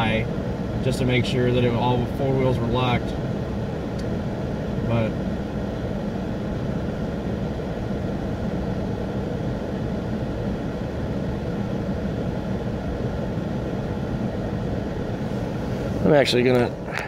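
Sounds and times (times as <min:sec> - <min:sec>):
car engine idling inside cabin: 0:00.0 - 0:17.0.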